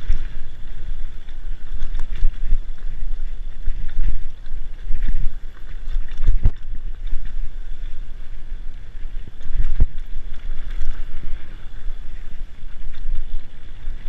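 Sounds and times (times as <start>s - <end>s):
bike rumbling and rattling: 0.0s - 14.0s
wind rushing over microphone: 0.0s - 14.0s.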